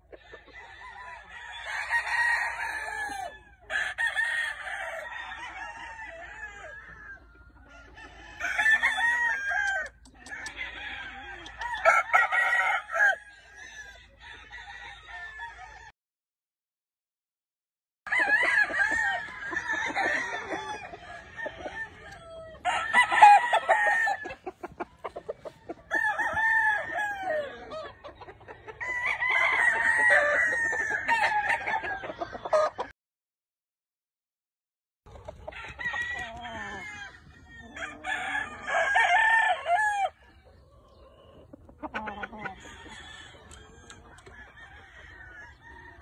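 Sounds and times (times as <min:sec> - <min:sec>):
rooster clucks: 0:00.0 - 0:14.4, 0:18.1 - 0:32.9, 0:35.1 - 0:46.0
roosters crowing: 0:00.0 - 0:15.9, 0:18.1 - 0:32.9, 0:35.2 - 0:46.0.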